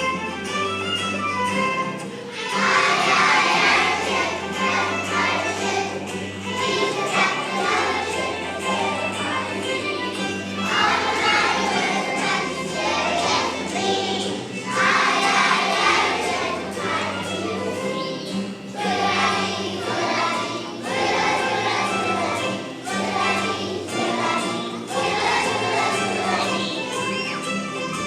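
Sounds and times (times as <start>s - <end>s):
children singing: 0.0s - 28.0s
instrumental accompaniment with bass: 0.0s - 28.0s.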